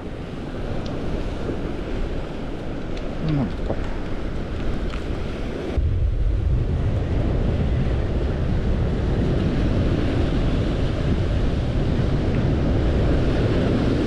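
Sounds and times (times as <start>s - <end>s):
surf washing against rocks: 0.0s - 5.8s, 6.4s - 14.0s
wind buffeting microphone: 0.0s - 14.0s.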